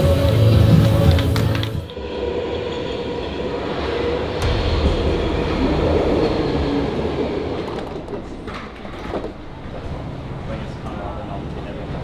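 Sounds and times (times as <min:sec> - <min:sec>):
underground train rumble: 0:00.0 - 0:12.0.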